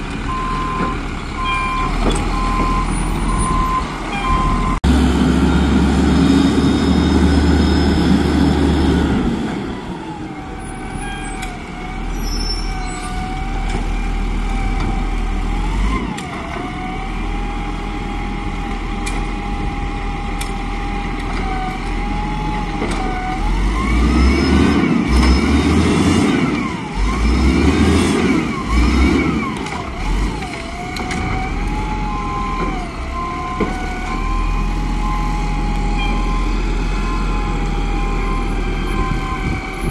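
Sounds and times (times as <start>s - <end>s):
garbage truck engine revving: 0.0s - 39.9s.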